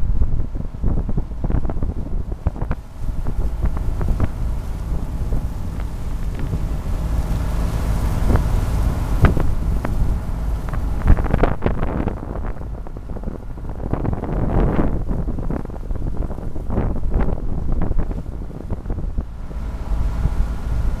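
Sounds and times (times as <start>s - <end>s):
boat engine droning: 0.0s - 21.0s
wake rushing along hull: 0.0s - 21.0s
wind buffeting microphone: 0.0s - 21.0s.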